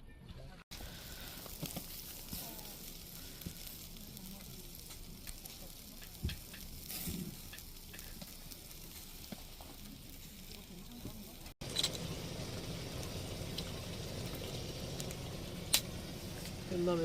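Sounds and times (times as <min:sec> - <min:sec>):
food sizzling on hot surface: 0:00.7 - 0:17.0.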